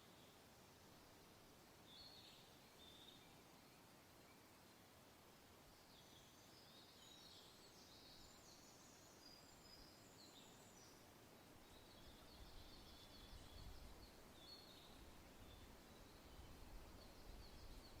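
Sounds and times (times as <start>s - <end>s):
soft hiss: 0.0s - 18.0s.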